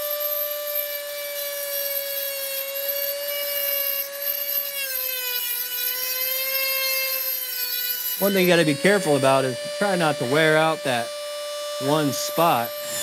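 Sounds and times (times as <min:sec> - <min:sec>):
electric sharpener motor whining: 0:00.0 - 0:13.0
electrode grinding on spinning disc: 0:00.0 - 0:13.0.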